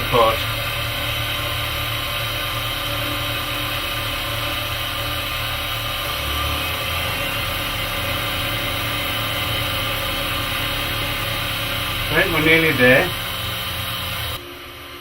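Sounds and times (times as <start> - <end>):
cnc milling machine cutting metal: 0.0 - 15.0.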